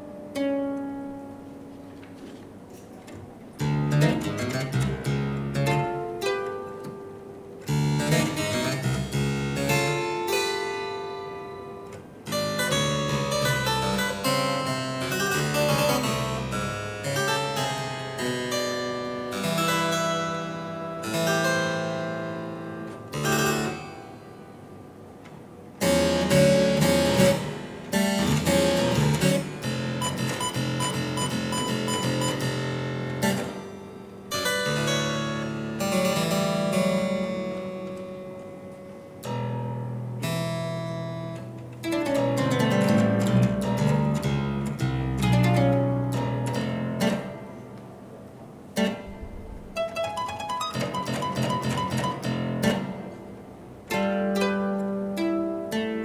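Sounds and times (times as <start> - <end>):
solo harpsichord playing: 3.6 - 25.0, 25.8 - 56.0.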